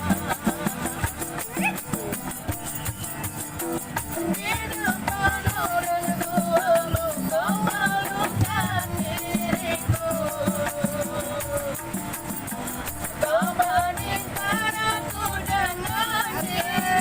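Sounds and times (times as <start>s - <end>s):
instrumental accompaniment: 0.0s - 17.0s
shaker rhythm: 0.0s - 17.0s.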